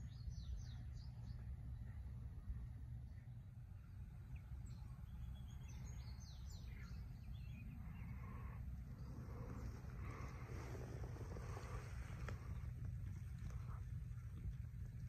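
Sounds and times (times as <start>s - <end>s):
low rumble: 0.0s - 15.0s
small birds chirping: 0.0s - 15.0s.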